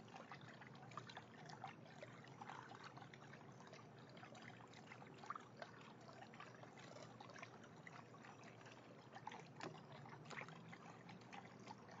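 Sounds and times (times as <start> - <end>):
fountain water trickling and dripping: 0.0 - 12.0.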